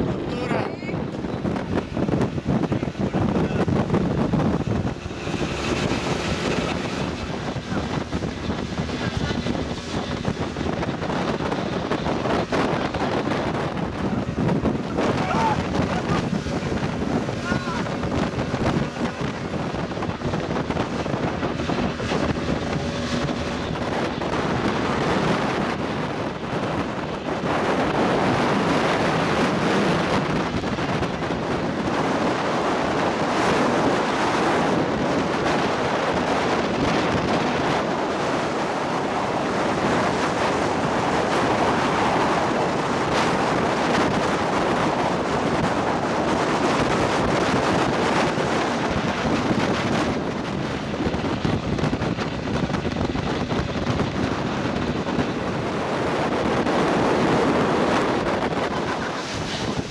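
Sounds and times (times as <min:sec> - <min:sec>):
water rushing past boat hull: 0:00.0 - 0:59.9
wind buffeting microphone: 0:00.0 - 0:59.9.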